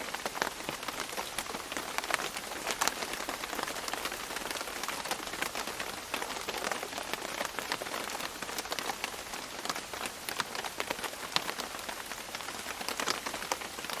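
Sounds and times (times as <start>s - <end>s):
rain dripping on leaves: 0.0s - 14.0s.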